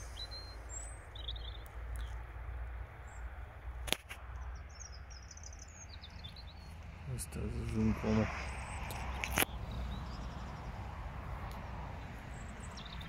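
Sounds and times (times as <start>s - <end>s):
small birds twittering: 0.0s - 3.5s, 4.2s - 13.0s.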